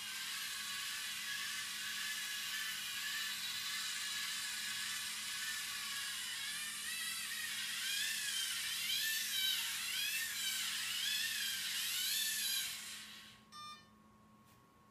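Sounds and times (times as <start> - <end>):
robot motors whining: 0.0 - 13.4.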